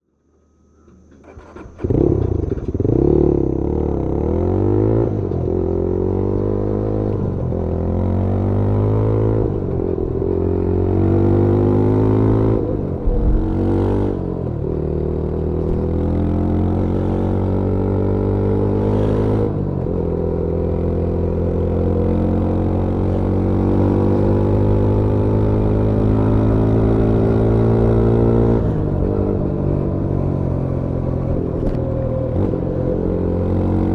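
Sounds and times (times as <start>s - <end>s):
motorcycle engine accelerating: 1.2s - 33.9s.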